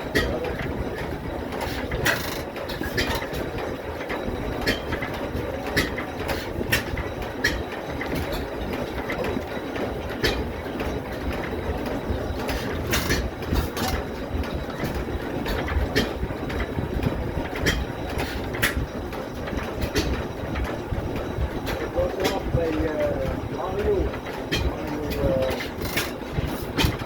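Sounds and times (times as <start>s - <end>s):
sharp irregular clicks and knocks: 0.0s - 27.0s.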